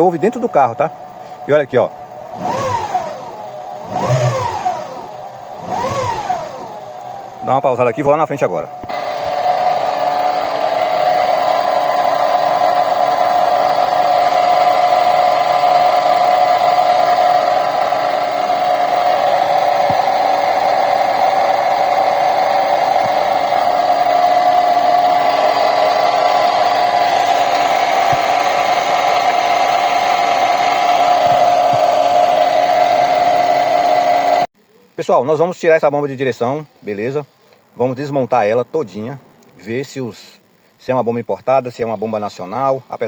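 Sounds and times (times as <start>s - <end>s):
power steering pump whining: 0.0s - 34.5s.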